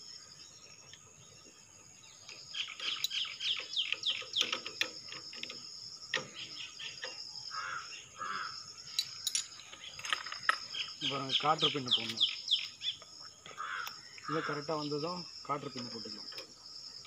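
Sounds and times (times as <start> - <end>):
birds chirping: 0.0 - 17.0
high drone of insects: 0.0 - 17.0.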